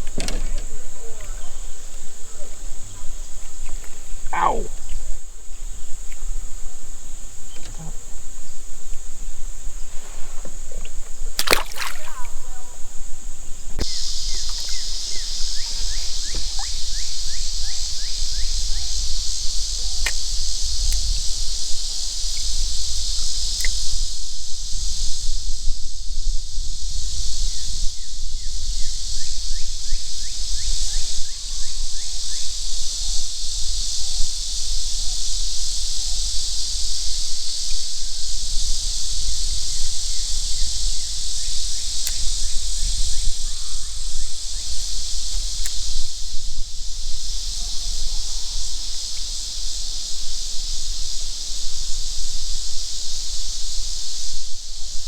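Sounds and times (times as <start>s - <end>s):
insect chorus buzzing: 0.0s - 55.0s.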